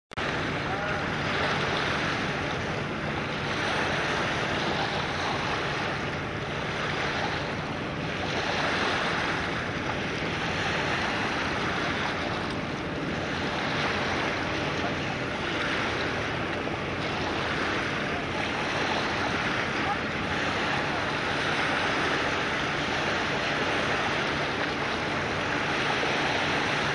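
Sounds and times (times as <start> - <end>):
rushing water: 0.1 - 26.9
wind on microphone: 0.2 - 26.9.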